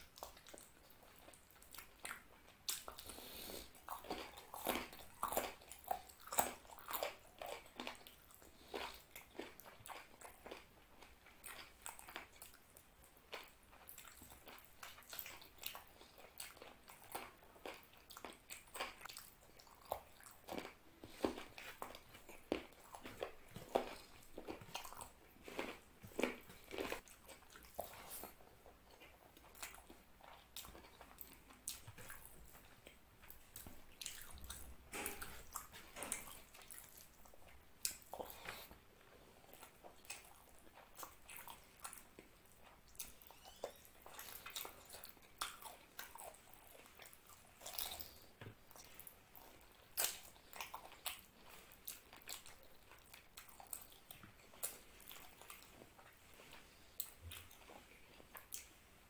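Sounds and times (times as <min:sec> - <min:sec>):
close chewing: 0:00.0 - 0:58.8.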